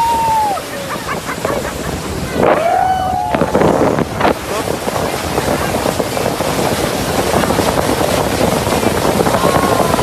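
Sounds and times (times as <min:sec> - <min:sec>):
boat hull and spray: 0:00.0 - 0:10.0
wind buffeting microphone: 0:00.0 - 0:10.0.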